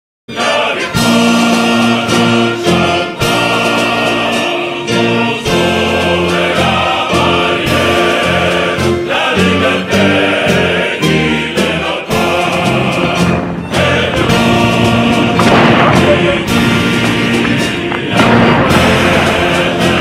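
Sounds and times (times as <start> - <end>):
choir singing held chords: 0.3 - 20.0.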